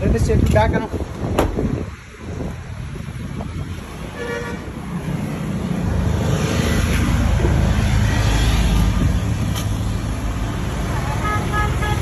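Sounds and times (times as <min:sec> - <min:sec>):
road traffic engine rumble: 0:00.0 - 0:12.0.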